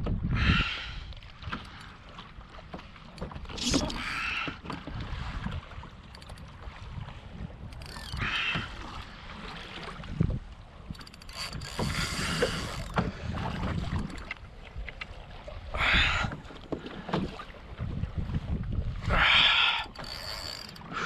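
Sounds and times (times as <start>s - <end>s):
wind buffeting microphone: 0.0s - 1.7s, 3.2s - 21.0s
water sloshing against hull: 0.0s - 21.0s.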